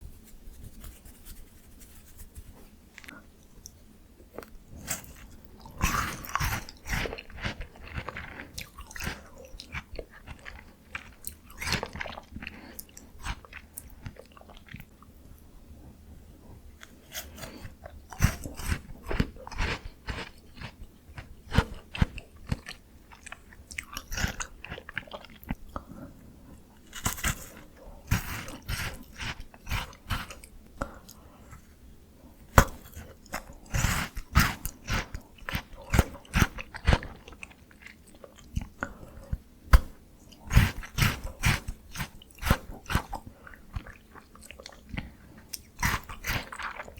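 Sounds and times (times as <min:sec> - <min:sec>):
chewing crunchy ice bar: 0:04.8 - 0:14.9, 0:17.1 - 0:25.6, 0:26.8 - 0:31.6, 0:32.6 - 0:46.9.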